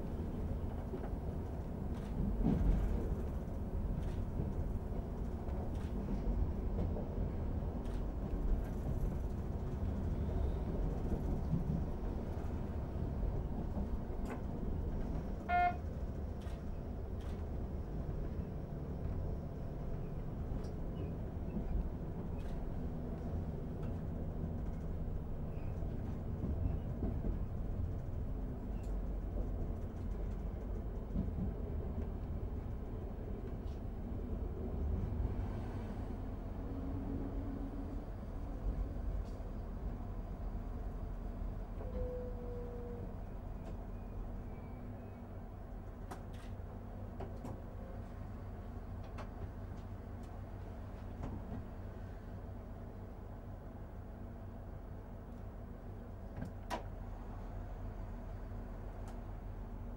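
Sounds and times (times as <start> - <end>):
train engine and wheels rumbling: 0.0 - 59.9.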